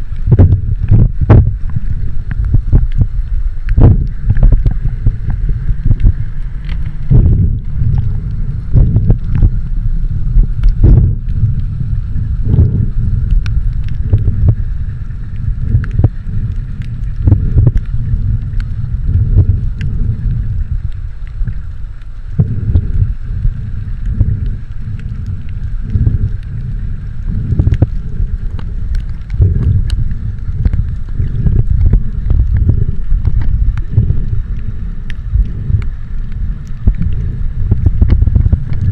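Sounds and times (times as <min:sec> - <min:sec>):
faint steady hum: 0:00.0 - 0:38.9
low water rumble: 0:00.0 - 0:38.9.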